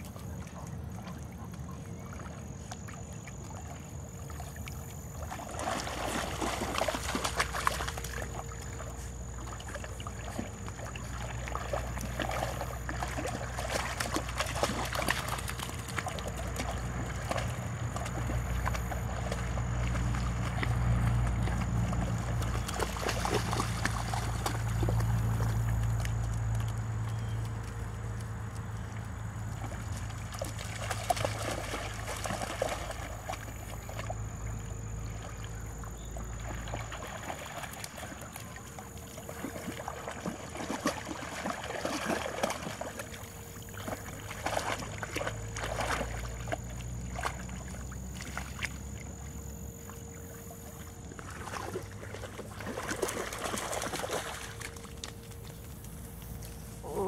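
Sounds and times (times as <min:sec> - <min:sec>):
low steady rumble: 0:00.0 - 0:57.0
water sloshing and splashing: 0:00.0 - 0:57.0.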